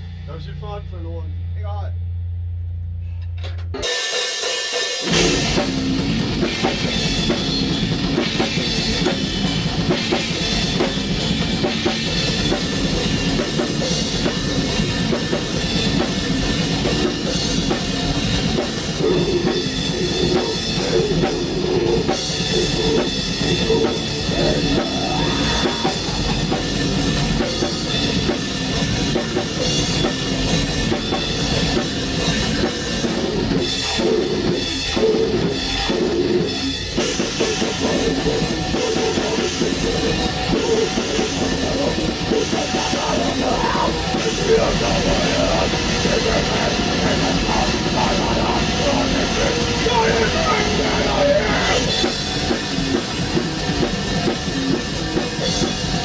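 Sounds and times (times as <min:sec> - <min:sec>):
drum kit with dense cymbals: 0:00.0 - 0:56.0
metal band playing: 0:03.8 - 0:56.0.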